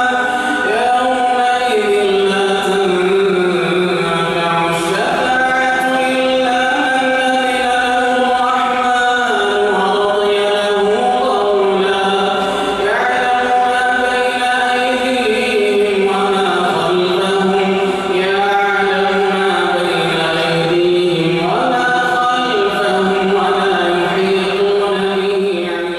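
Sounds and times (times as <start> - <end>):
man chanting recitation: 0.0 - 25.9.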